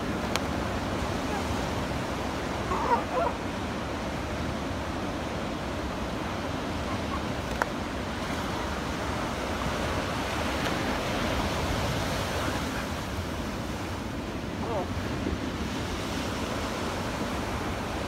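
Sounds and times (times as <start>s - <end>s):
surf breaking on a beach: 0.0s - 18.0s.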